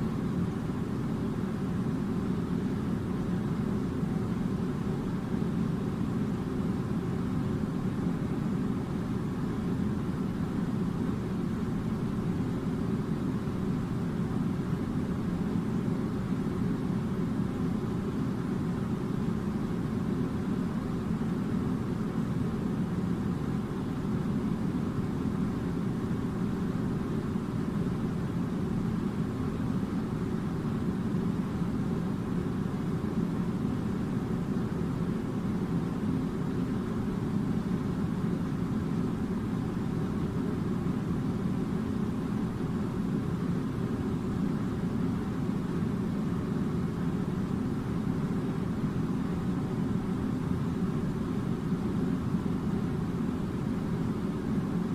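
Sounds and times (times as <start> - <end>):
air conditioner running: 0.0 - 54.9.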